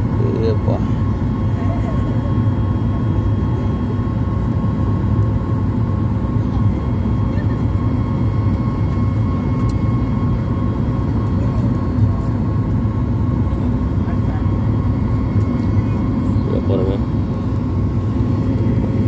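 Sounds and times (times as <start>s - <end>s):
airliner engine drone: 0.0s - 19.0s.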